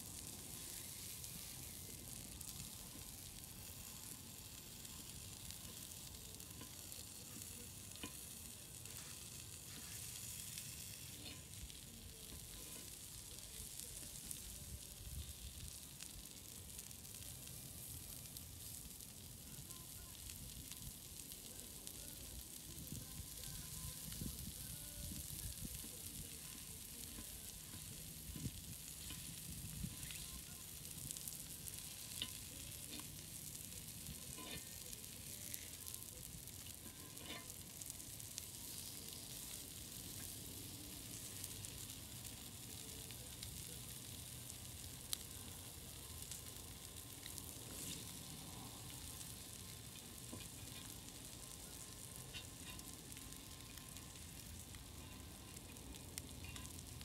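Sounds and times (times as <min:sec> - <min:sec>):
meat sizzling on griddle: 0:00.0 - 0:57.0.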